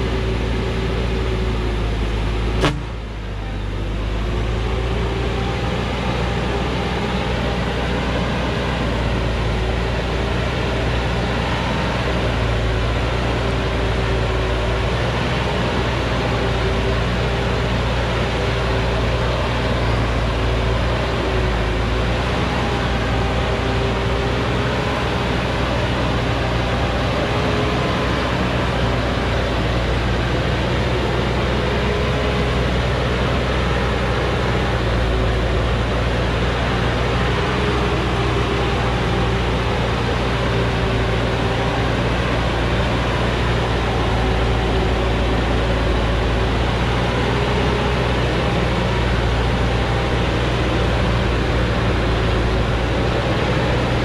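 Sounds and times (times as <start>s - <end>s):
diesel truck engine droning: 0.0s - 54.0s.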